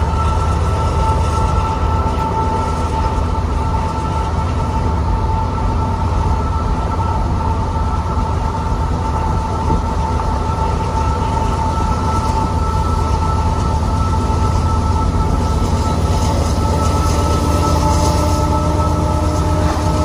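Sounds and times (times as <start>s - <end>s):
constant high-pitched tones: 0.0s - 20.0s.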